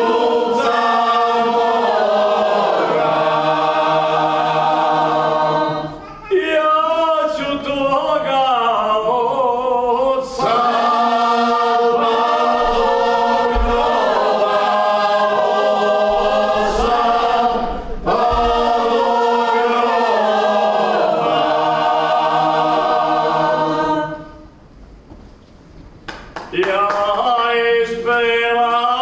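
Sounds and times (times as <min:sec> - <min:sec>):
a cappella group singing in harmony: 0:00.0 - 0:24.7, 0:26.6 - 0:29.0.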